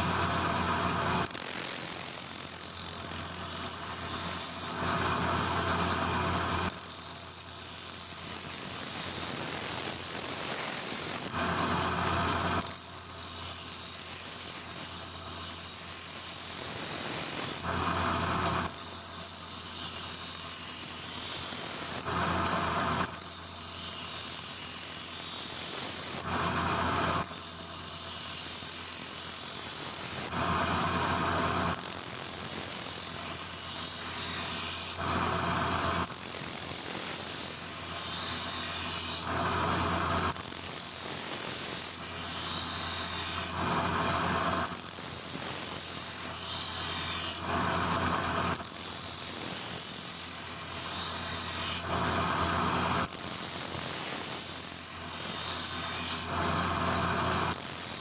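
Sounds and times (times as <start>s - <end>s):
rasp scraping in long strokes: 0.0s - 58.0s.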